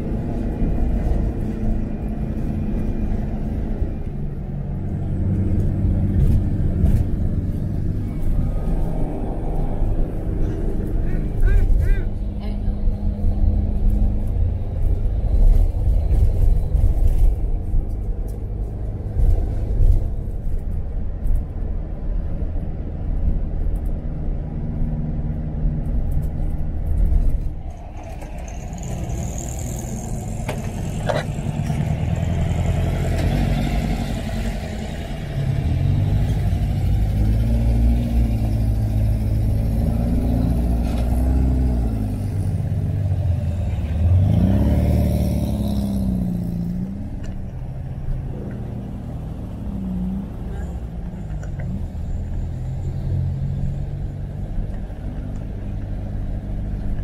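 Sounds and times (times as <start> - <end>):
car engine rumbling and revving: 0.0 - 57.0.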